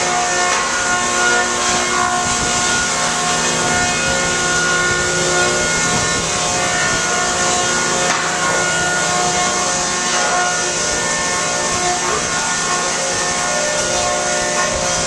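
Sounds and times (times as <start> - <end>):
electric planer humming: 0.0 - 15.0.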